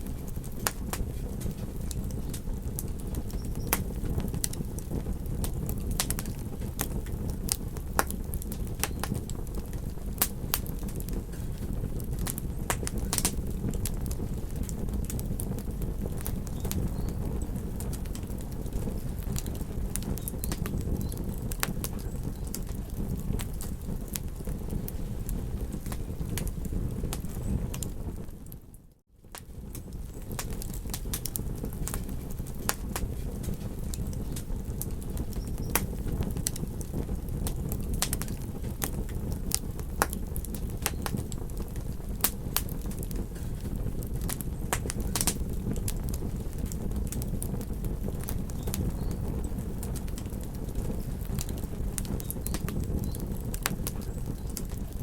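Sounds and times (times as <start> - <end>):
campfire crackling and popping: 0.0 - 55.0
wind: 0.0 - 55.0.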